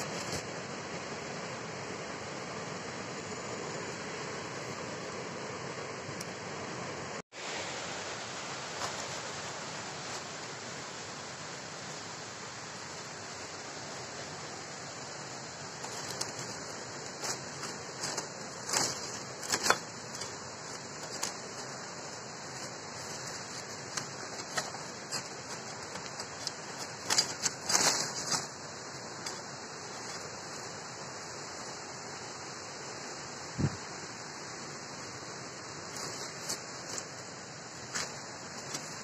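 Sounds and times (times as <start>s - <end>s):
bamboo leaves rustling and crackling: 0.0s - 1.1s, 7.3s - 39.0s
steady high hiss: 0.0s - 39.0s.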